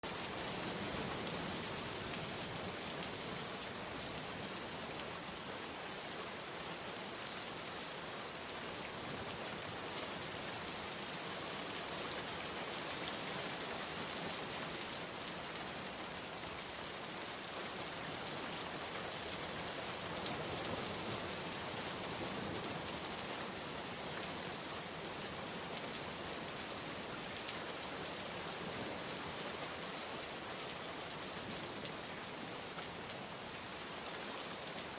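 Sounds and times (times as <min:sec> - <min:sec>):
steady rainfall hiss: 0:00.0 - 0:34.9.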